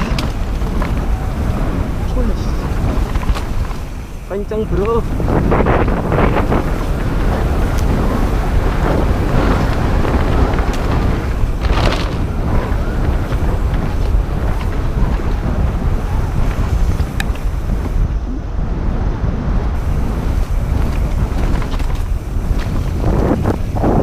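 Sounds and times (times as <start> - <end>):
tyres rolling over dirt: 0.0 - 18.3, 19.8 - 24.0
wind buffeting microphone: 0.0 - 24.0.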